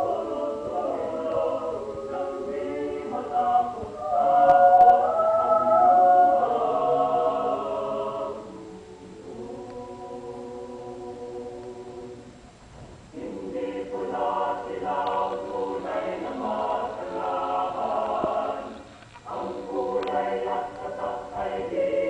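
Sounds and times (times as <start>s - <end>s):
choir singing a cappella: 0.0s - 12.5s, 13.1s - 22.0s.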